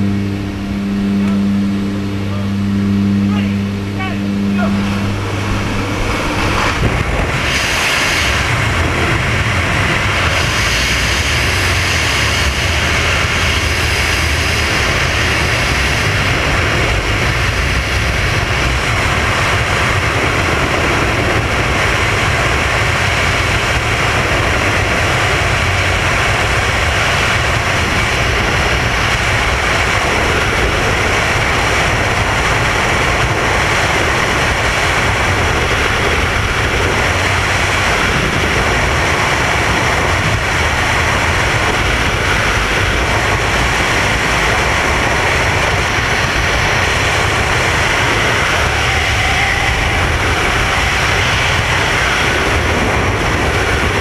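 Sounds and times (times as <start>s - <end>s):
freefall wind rush: 0.0s - 54.0s.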